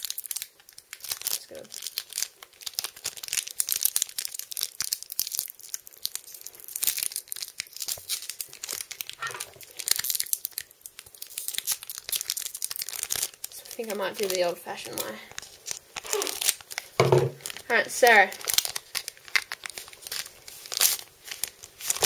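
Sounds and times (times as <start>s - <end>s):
foil wrapper crinkling and tearing: 0.0s - 22.0s.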